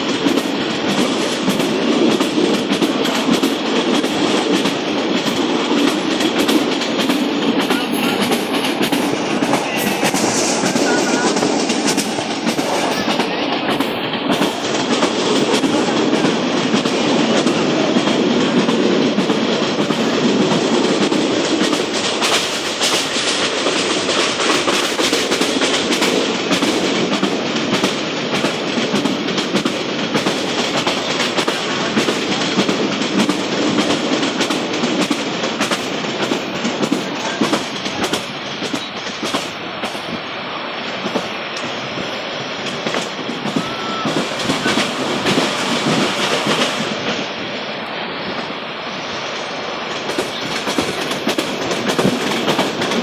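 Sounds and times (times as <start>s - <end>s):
wheels clacking over rail joints: 0.0s - 48.6s, 49.2s - 53.0s
train rumbling along track: 0.0s - 53.0s.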